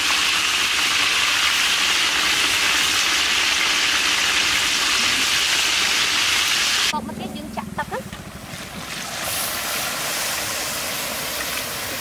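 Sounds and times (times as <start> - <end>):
fish sizzling in hot oil: 0.0 - 6.9, 8.5 - 12.0.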